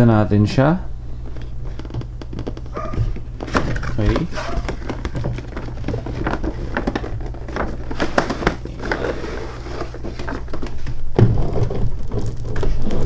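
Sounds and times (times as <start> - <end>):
plastic packaging crinkling: 1.2 - 13.0.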